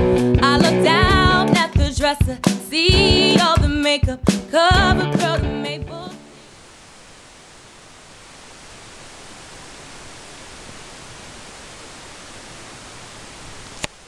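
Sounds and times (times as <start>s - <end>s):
background hiss: 2.7s - 14.0s.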